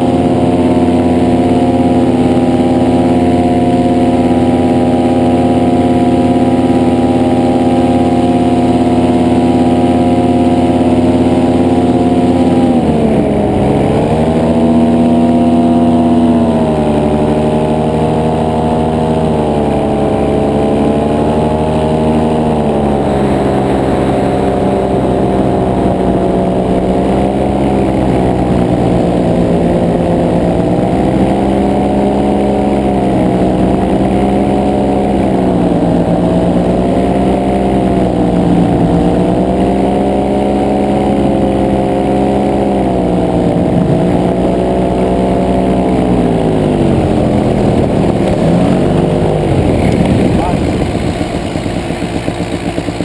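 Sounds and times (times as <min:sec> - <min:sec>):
paramotor engine and propeller: 0:00.0 - 0:53.0.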